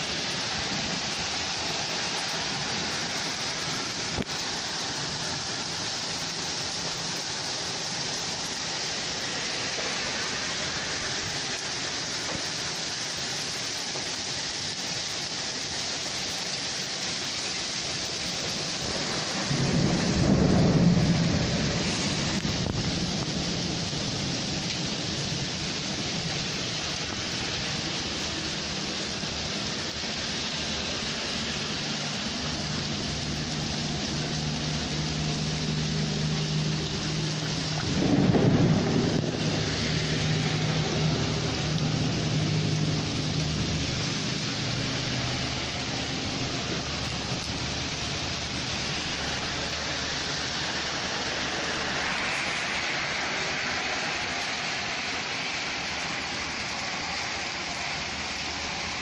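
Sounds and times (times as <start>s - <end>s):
thunder rumbling: 0.0s - 29.9s, 31.4s - 54.6s
heavy rain pouring: 0.0s - 59.0s.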